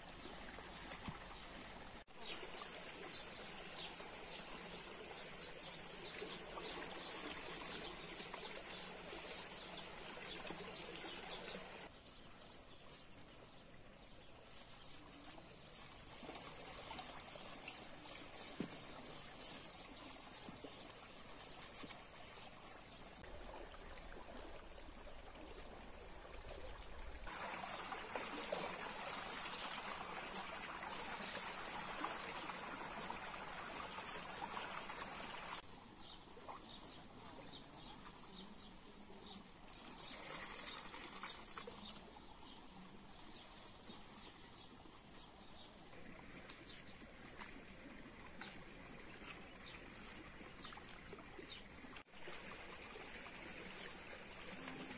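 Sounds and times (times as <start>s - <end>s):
water running through channel: 0.0s - 54.9s.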